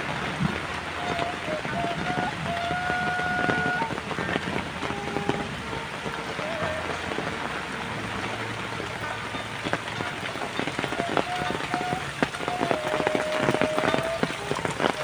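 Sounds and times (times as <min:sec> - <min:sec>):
rain falling: 0:00.0 - 0:15.0
raindrops clicking on surfaces: 0:00.0 - 0:15.0.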